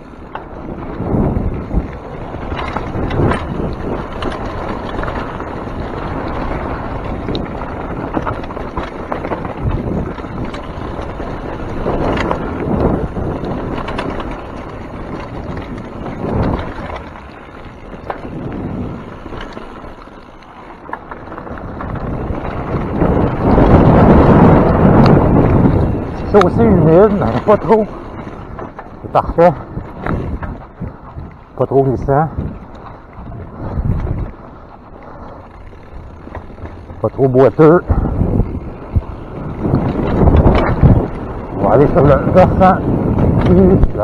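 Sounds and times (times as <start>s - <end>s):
bike clattering on rough ground: 0.0s - 44.0s
bike tyre noise: 0.0s - 44.0s
wind rushing over microphone: 0.0s - 44.0s.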